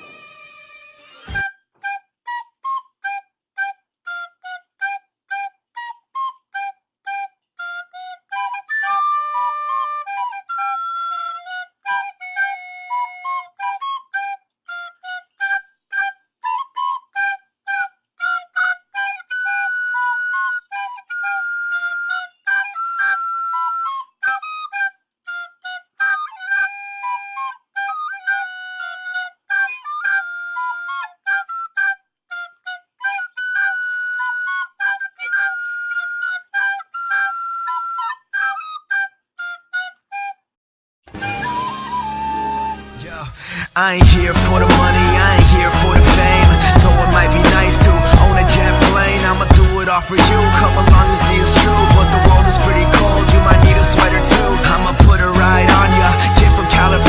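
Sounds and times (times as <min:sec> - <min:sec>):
solo flute melody: 0:00.0 - 0:57.0.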